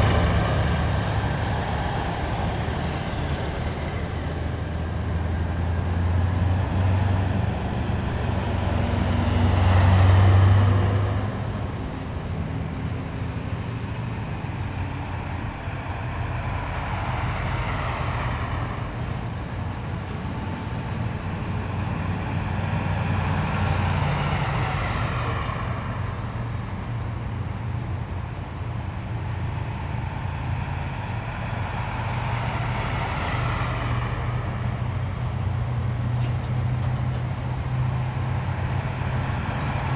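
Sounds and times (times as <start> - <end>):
heavy military vehicles driving past: 0.0 - 39.9.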